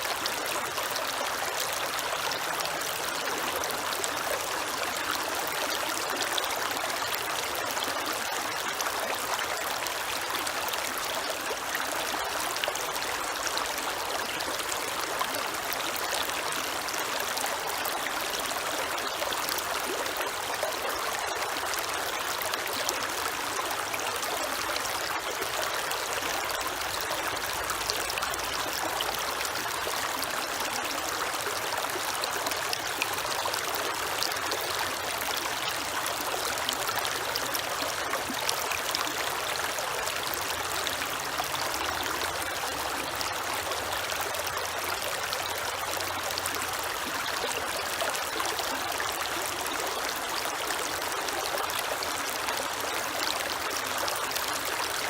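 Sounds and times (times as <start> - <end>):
creek water over stones: 0.0 - 55.0.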